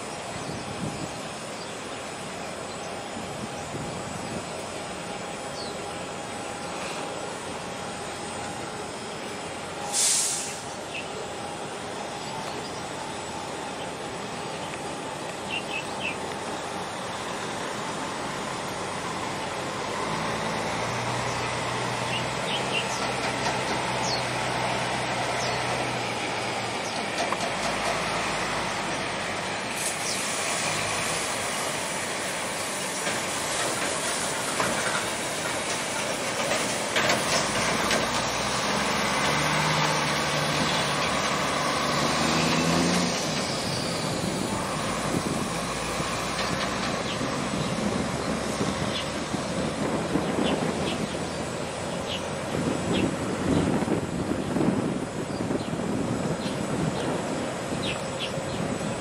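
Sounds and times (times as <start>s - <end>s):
engine rumble: 0.0s - 59.0s
outdoor noise: 0.0s - 59.0s.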